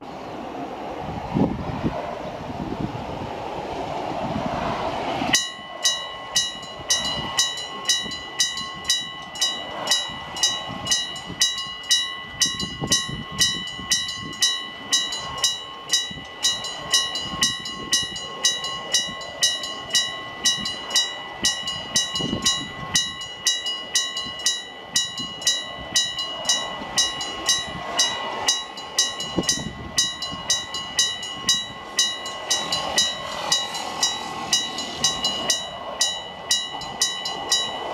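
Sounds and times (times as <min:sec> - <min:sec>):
level crossing bell ringing: 0:05.4 - 0:37.9.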